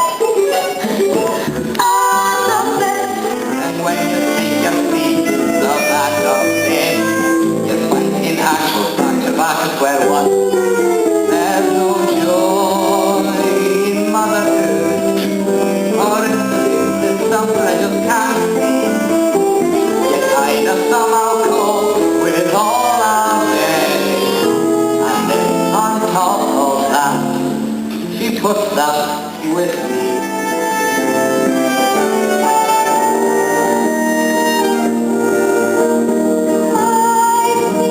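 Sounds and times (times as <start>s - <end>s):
instrumental accompaniment: 0.0s - 37.9s
voices singing: 0.0s - 37.9s.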